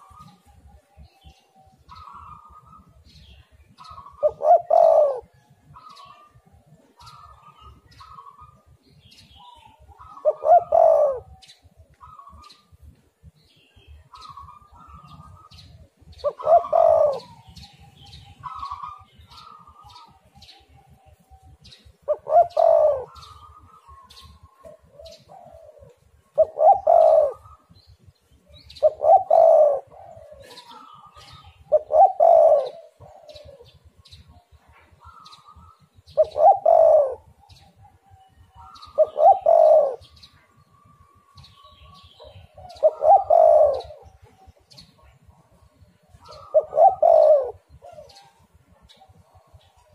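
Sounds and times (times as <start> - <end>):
dove cooing: 0.0 - 13.0, 14.0 - 49.9
small birds chirping: 0.0 - 49.9.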